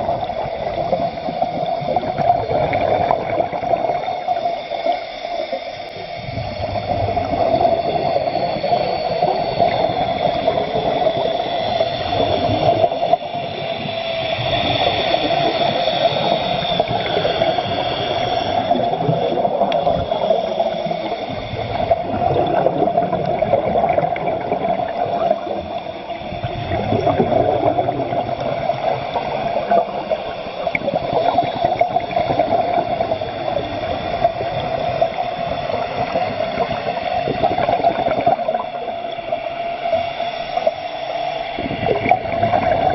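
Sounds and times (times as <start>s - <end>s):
rushing gurgling water: 0.0s - 42.9s.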